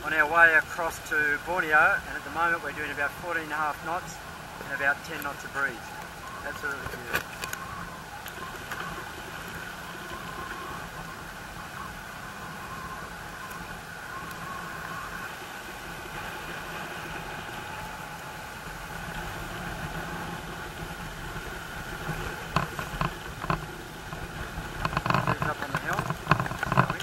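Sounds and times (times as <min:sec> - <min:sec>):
boat rushing through water: 0:00.0 - 0:27.0.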